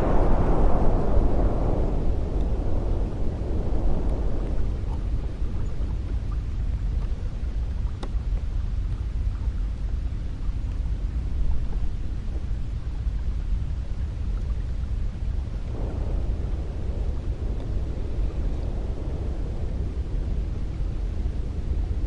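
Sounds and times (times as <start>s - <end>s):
wind blowing with deep rumble: 0.0s - 22.0s.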